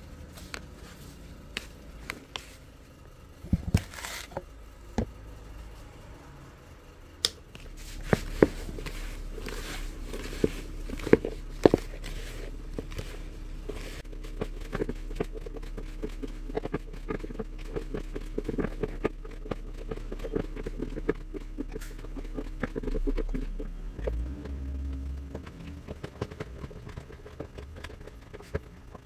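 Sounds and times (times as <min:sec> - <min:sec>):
hands kneading sticky dough: 0:00.0 - 0:02.7, 0:07.2 - 0:29.0.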